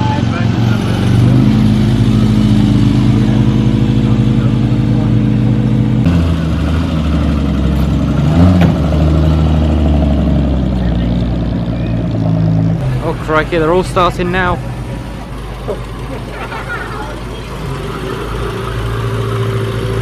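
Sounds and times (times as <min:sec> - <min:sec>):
car engines idling: 0:00.0 - 0:20.0
engine revving: 0:00.0 - 0:20.0.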